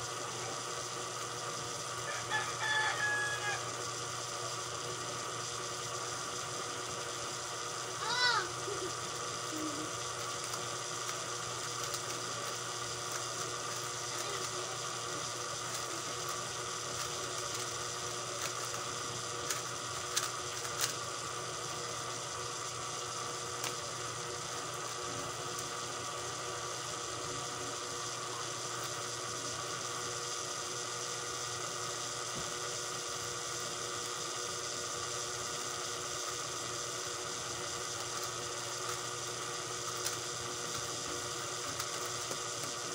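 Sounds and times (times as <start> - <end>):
electrical hum: 0.0 - 42.9.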